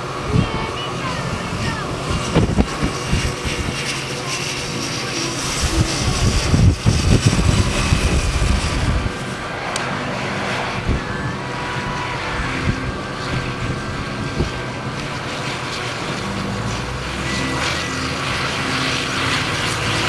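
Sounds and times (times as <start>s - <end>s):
vehicle engine running: 0.0s - 20.0s
wind buffeting microphone: 0.0s - 20.0s.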